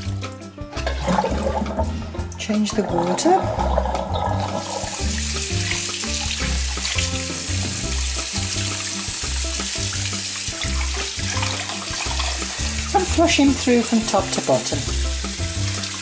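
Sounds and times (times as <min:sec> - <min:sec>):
water splashing on meat: 0:00.0 - 0:16.0
tap running into sink: 0:00.8 - 0:16.0.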